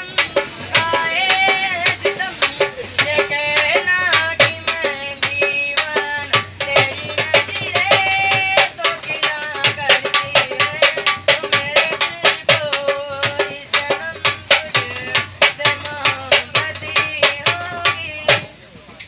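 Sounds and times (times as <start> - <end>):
hand drum beat: 0.0 - 18.5
person singing folk song: 0.0 - 18.7.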